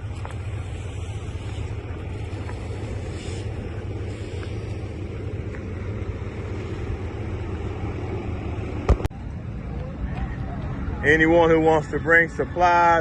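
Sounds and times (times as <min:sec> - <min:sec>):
constant noise haze: 0:00.0 - 0:13.0
engine running rumble: 0:00.0 - 0:13.0.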